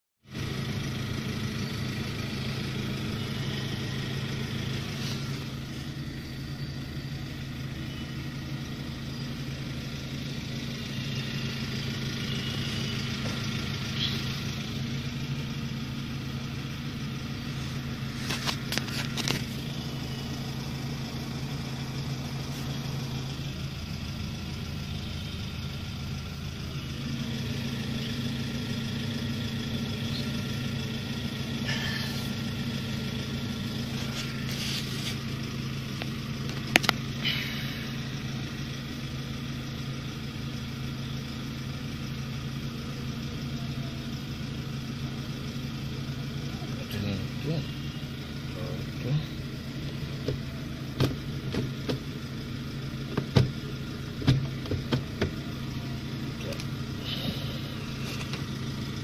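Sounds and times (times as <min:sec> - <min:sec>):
car engine idling: 0:00.2 - 0:59.0.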